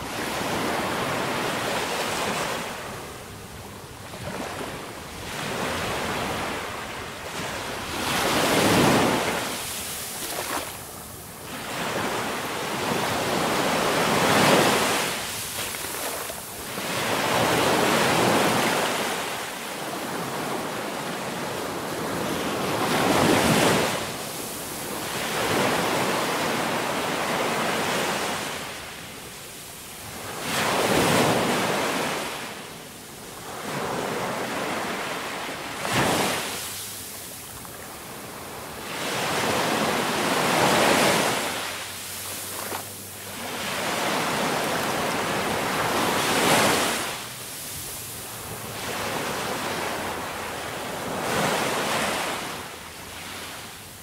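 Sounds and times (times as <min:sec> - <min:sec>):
ocean waves breaking: 0:04.0 - 0:29.0, 0:33.4 - 0:53.7.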